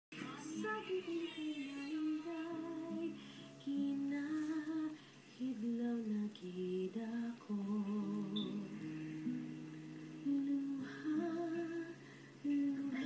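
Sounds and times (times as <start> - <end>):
woman humming a slow melody: 1.1 - 9.4, 10.2 - 13.0.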